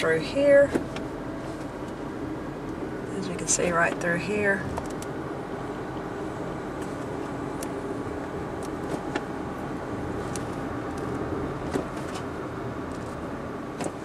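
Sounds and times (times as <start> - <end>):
car engine and tyre hum: 0.0 - 14.0.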